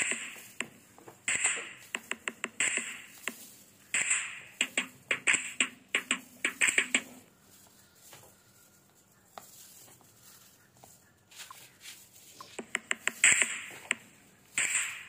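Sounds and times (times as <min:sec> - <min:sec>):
plastic gloves rustling: 0:00.0 - 0:14.6.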